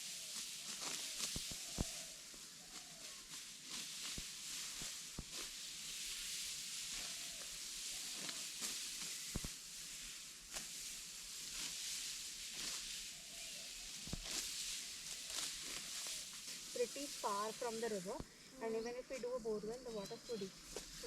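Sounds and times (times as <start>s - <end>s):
sickle snapping rice stalks: 0.0s - 18.3s, 19.0s - 21.0s
steady high hiss: 0.0s - 21.0s.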